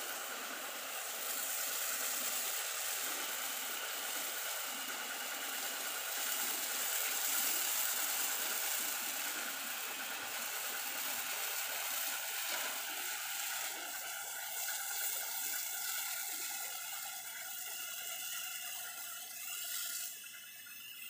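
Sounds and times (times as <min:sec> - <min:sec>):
faint steady whine: 0:00.0 - 0:21.0
pressure washer spraying water: 0:00.0 - 0:21.0.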